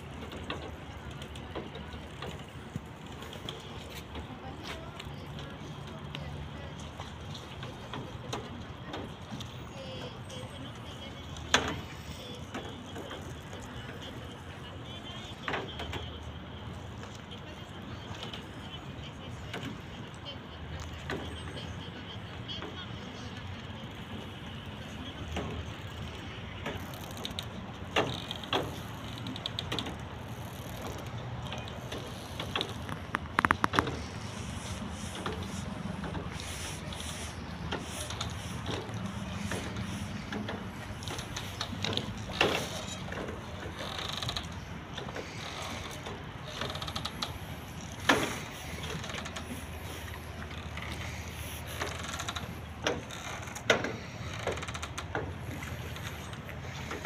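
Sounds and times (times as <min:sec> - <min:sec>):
boats creaking and knocking: 0:00.0 - 0:57.0.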